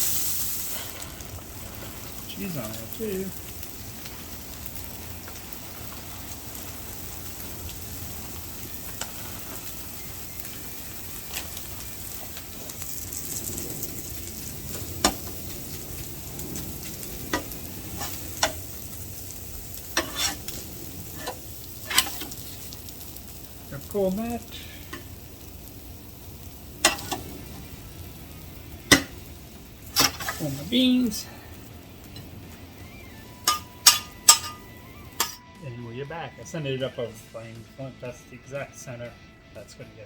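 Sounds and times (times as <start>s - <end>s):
food sizzling on a griddle: 0.0s - 38.9s.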